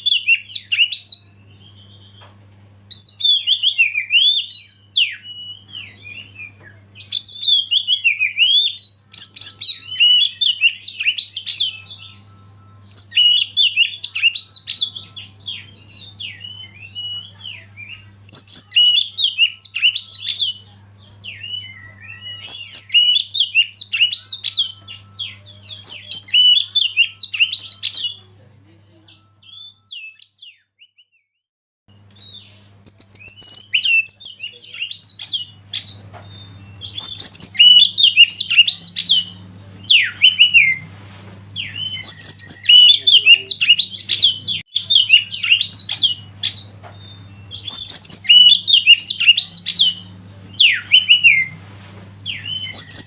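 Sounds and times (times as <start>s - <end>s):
bird singing chirps and trills: 0.0s - 31.1s, 31.9s - 53.0s.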